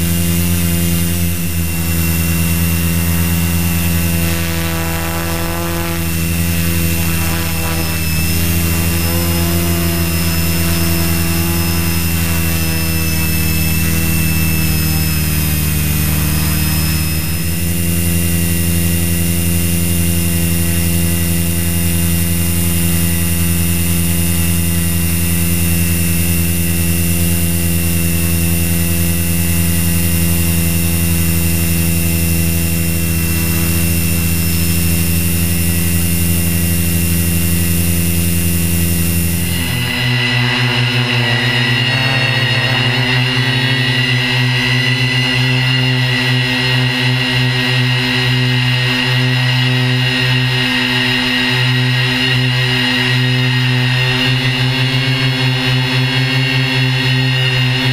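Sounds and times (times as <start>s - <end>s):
drone propellers whining: 0.0s - 57.9s.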